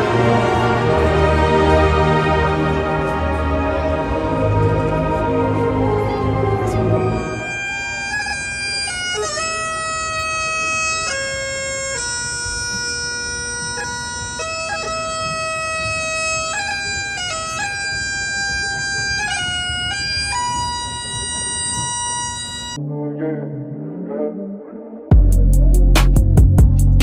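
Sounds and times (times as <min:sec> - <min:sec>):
bagpipes playing slow melody: 0:00.0 - 0:22.8.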